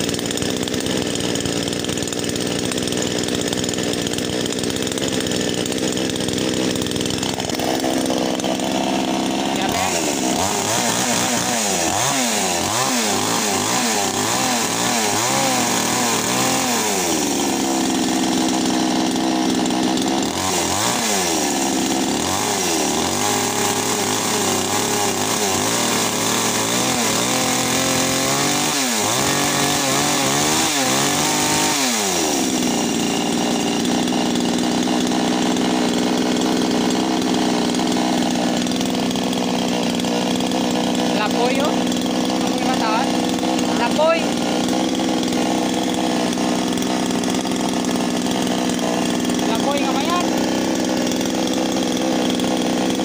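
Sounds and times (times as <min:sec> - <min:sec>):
chainsaw revving and idling: 0:00.0 - 0:53.0.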